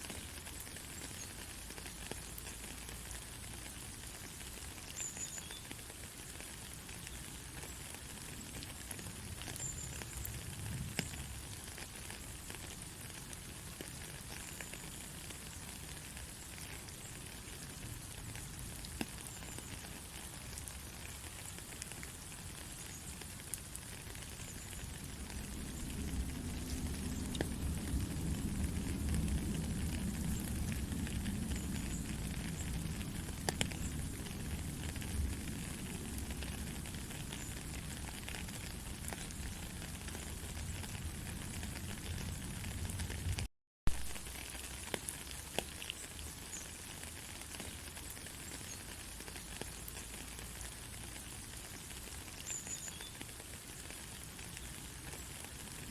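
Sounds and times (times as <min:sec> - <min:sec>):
gentle rain hiss: 0:00.0 - 0:55.9
raindrop ticks: 0:00.0 - 0:55.9.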